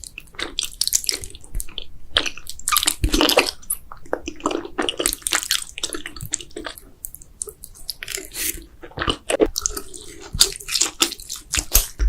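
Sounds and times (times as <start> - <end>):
person chewing noodles: 0.0 - 12.0.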